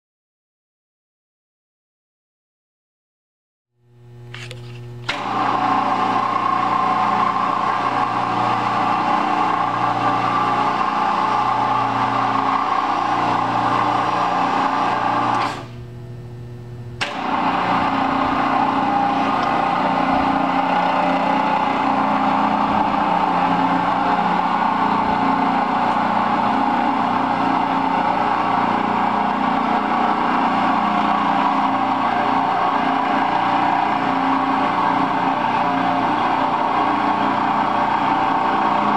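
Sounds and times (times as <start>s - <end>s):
low hum: 3.8s - 37.9s
electric gear motor running: 4.3s - 16.0s, 17.0s - 38.9s.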